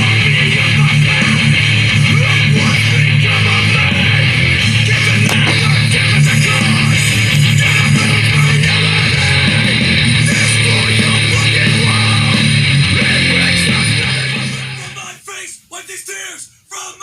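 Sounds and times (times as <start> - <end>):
heavy rock music: 0.0 - 15.3.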